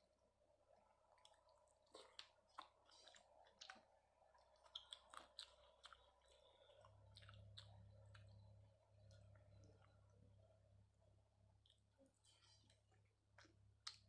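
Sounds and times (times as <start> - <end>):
low steady hum: 0.0 - 14.0
wet chewing mouth sounds: 1.0 - 10.2, 11.6 - 14.0.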